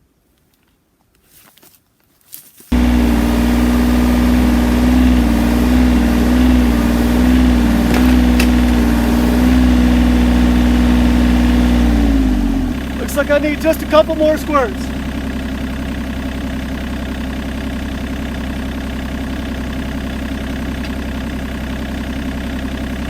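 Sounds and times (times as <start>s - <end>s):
diesel engine running: 2.7s - 23.0s.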